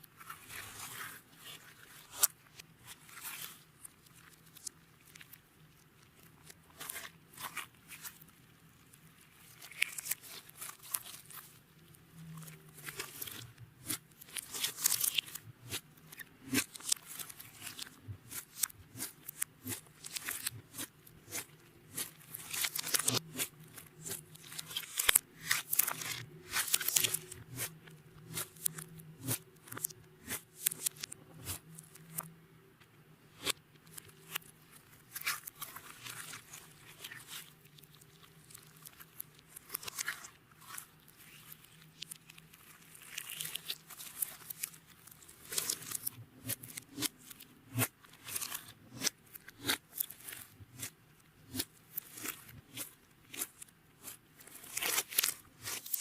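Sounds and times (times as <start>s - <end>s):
sticky slime crackles and pops: 0.1s - 32.3s, 33.4s - 56.0s.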